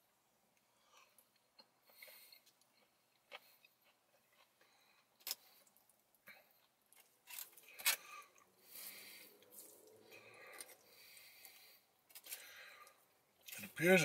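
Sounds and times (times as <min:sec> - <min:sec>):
man chewing with mouth closed: 0:00.5 - 0:13.6.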